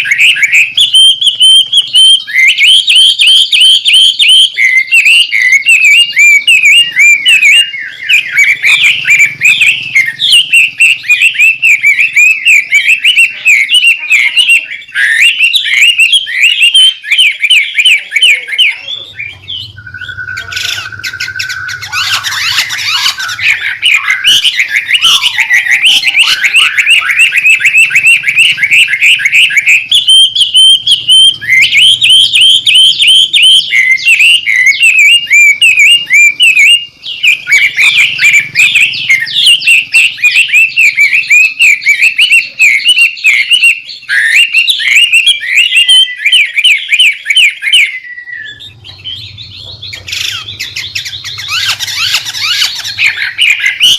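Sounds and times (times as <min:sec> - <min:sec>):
bird singing: 0:00.0 - 0:53.9
held whistle: 0:00.0 - 0:53.9.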